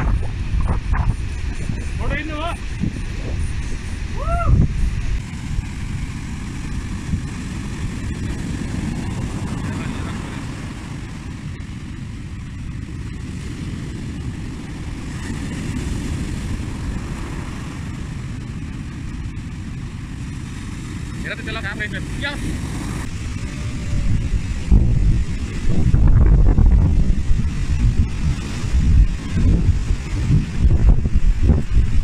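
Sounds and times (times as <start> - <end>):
ocean surf breaking on beach: 0.0 - 32.0
wind rumbling on microphone: 0.0 - 32.0.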